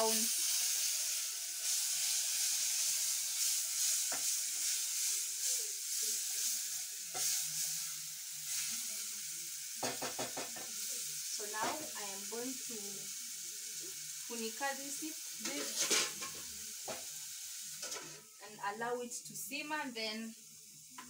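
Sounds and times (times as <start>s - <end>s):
vegetables sizzling in pot: 0.0s - 21.0s.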